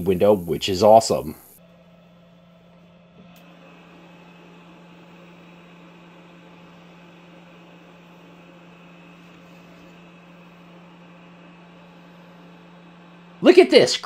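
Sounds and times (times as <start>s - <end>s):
faint high whine: 0.0s - 14.0s
machine humming: 0.0s - 14.0s.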